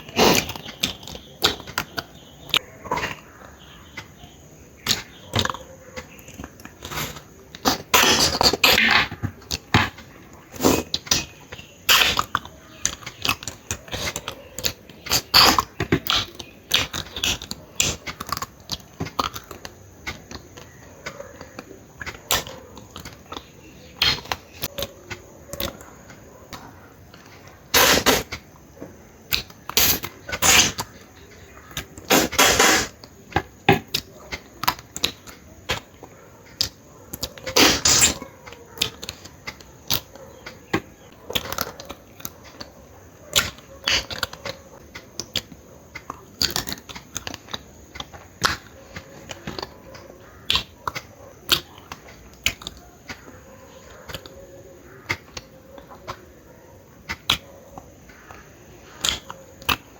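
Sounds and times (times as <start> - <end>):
wet chewing: 0.0 - 28.5, 29.3 - 56.3
crunching: 0.0 - 59.9
mouth clicks: 0.0 - 59.9.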